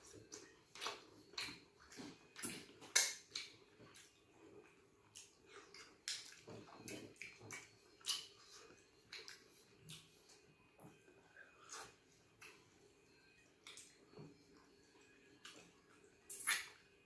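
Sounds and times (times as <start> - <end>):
chewing with wet smacks: 0.0 - 12.8, 13.4 - 16.9.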